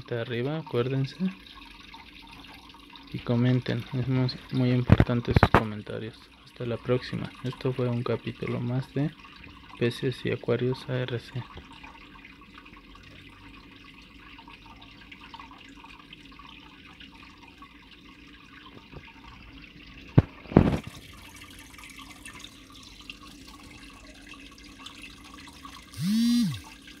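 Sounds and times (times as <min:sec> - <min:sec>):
water splashing trickle: 0:00.0 - 0:26.0, 0:26.6 - 0:27.0.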